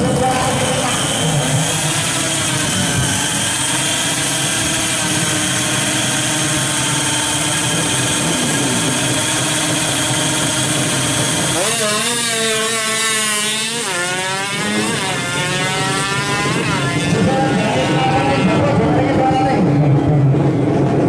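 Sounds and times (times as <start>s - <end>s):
motorbike engine at high revs: 0.0s - 21.0s.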